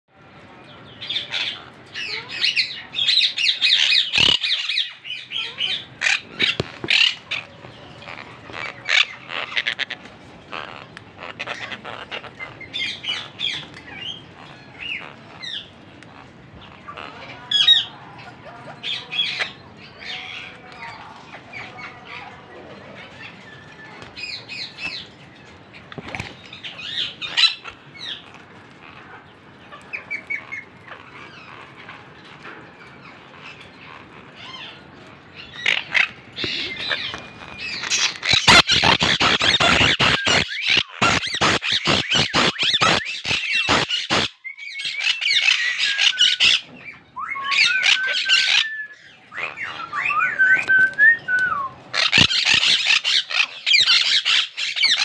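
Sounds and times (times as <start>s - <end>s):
parakeet chirping and squawking: 1.0s - 20.3s, 24.2s - 50.2s, 51.8s - 55.0s.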